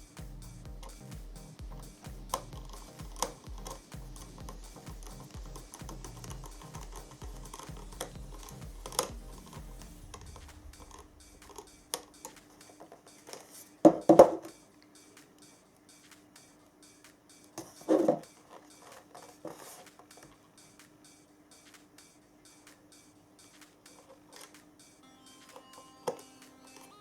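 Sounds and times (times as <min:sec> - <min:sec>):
electronic music with beat: 0:00.0 - 0:27.0.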